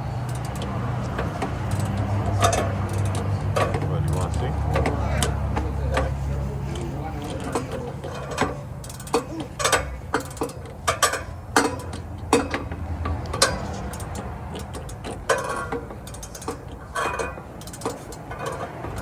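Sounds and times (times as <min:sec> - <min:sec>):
metal tool clicks and clanks: 0:00.2 - 0:06.2, 0:06.8 - 0:19.0.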